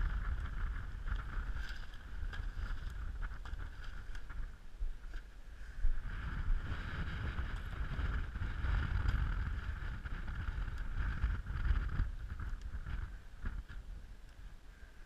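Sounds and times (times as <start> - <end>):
tent flysheet rustling and flapping: 0.0 - 14.0
wind buffeting microphone: 0.0 - 14.9.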